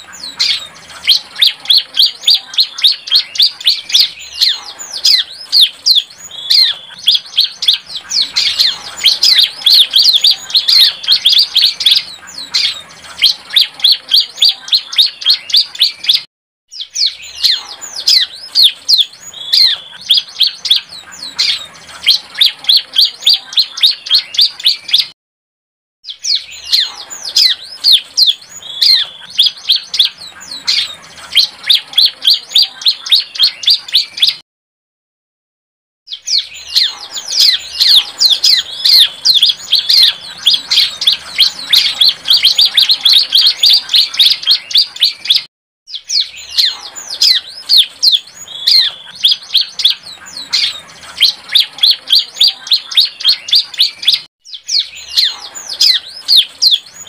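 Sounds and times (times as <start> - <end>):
bird chirping song: 0.0 - 25.2, 26.0 - 34.4, 36.1 - 57.0.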